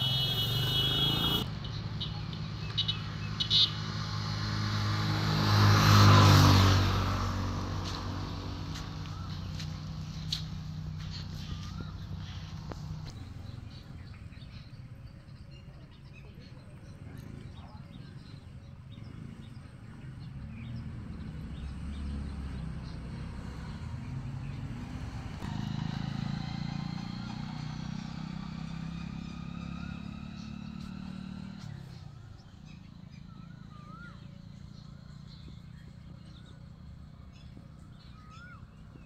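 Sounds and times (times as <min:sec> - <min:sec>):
birds chirping: 0:00.0 - 0:04.7, 0:05.6 - 0:39.0
vehicles passing: 0:00.0 - 0:39.0.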